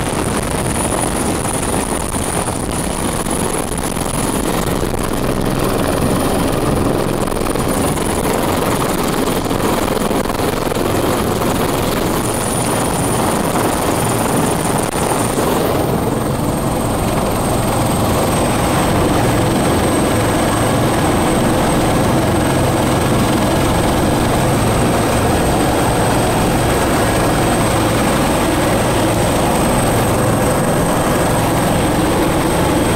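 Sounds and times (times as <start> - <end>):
helicopter engines and rotor: 0.0 - 32.9
high turbine whine: 0.0 - 32.9.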